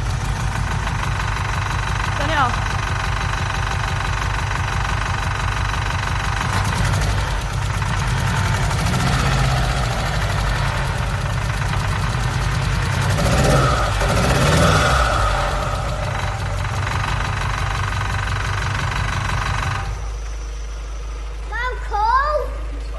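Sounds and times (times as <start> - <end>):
engine running unevenly: 0.0 - 22.9.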